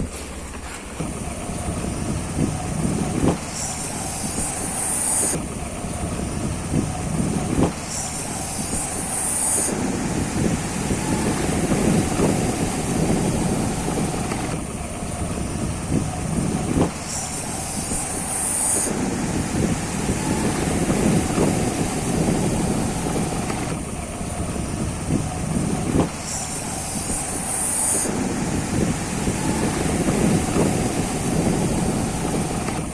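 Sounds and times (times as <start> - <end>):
motorbike engine: 0.0 - 32.9
wind noise on microphone: 0.0 - 32.9.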